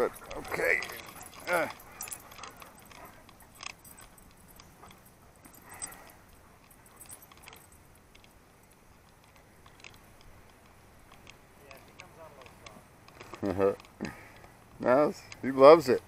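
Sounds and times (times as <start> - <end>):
dog collar tags clinking: 0.0 - 16.0.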